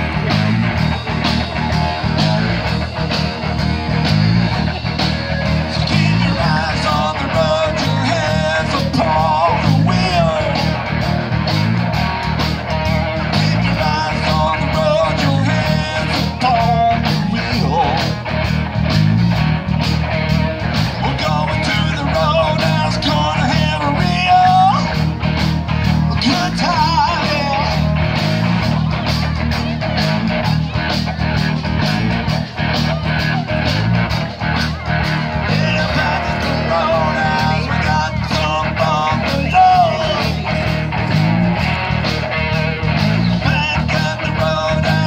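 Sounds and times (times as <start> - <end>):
guitar lead melody bending: 0.0 - 45.0
live rock and roll band: 0.0 - 45.0.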